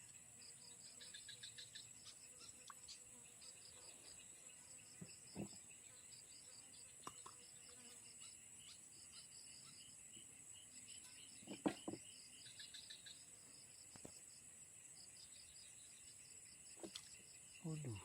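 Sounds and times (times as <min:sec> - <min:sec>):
insect chorus drone and chirps: 0:00.0 - 0:18.0.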